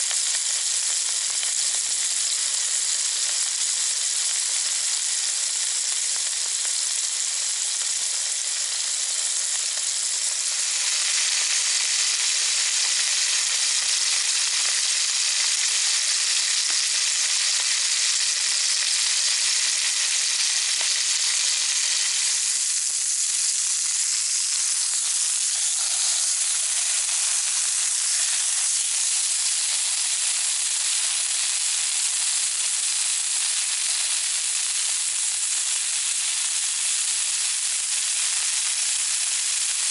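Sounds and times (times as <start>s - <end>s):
steaks sizzling in oil: 0.0s - 39.9s.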